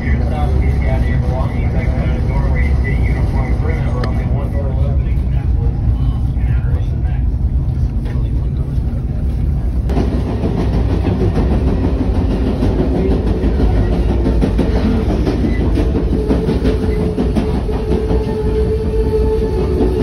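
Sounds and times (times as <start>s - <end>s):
train rumbling on rails: 0.0s - 20.0s
wheels clickety-clack over track: 0.0s - 20.0s.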